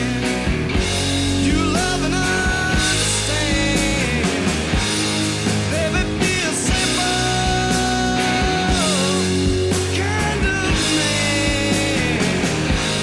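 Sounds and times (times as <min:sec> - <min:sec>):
rock music with drums: 0:00.0 - 0:13.0.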